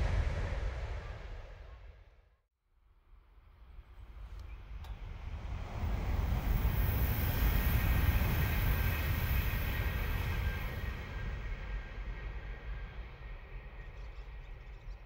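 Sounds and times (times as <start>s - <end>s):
high-speed train passing: 0.0s - 2.0s, 3.6s - 15.0s.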